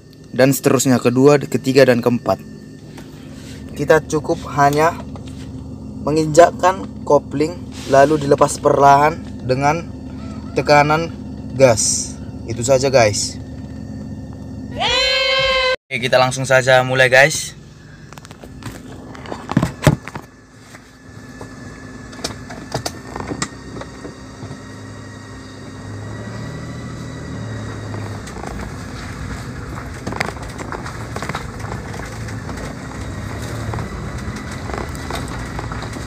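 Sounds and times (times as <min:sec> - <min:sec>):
car engine accelerating: 0:00.0 - 0:14.8, 0:16.4 - 0:36.0.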